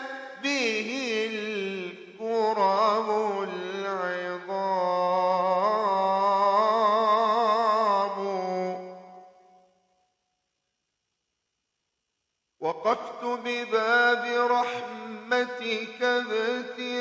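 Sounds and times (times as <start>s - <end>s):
man chanting: 0.0s - 9.3s, 12.6s - 17.0s.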